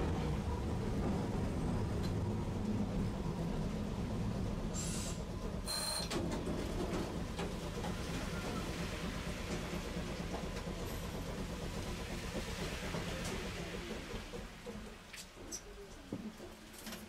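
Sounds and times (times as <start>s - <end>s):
streetcar rumbling: 0.0s - 17.0s.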